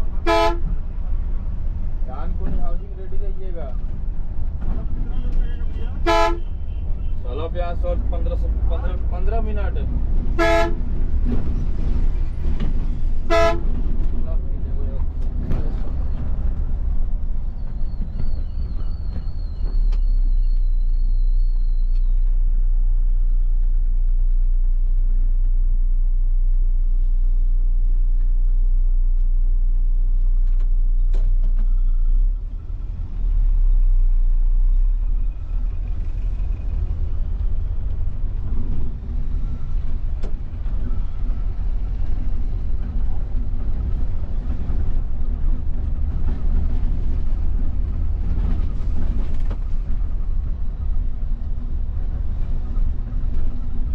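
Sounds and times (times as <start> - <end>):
coach engine rumble and road noise: 0.0 - 53.9.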